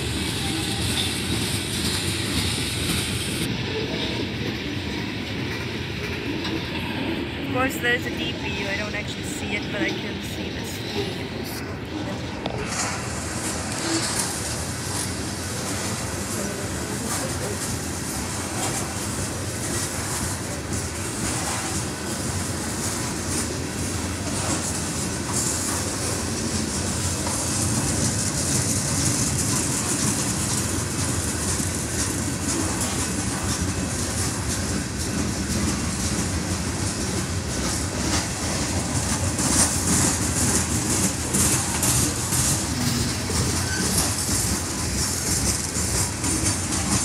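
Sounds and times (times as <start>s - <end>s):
freight train wheels clacking on rails: 0.0s - 47.0s.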